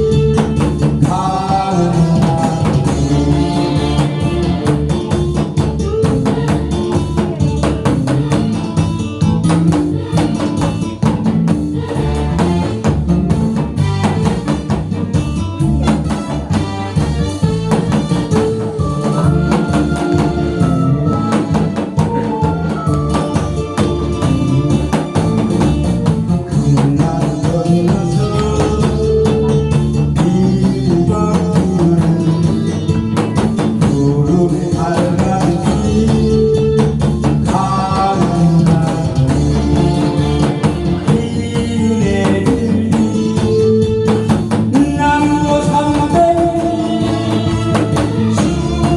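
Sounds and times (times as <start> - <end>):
drum kit beat: 0.0 - 48.9
instrumental backing track: 0.0 - 48.9.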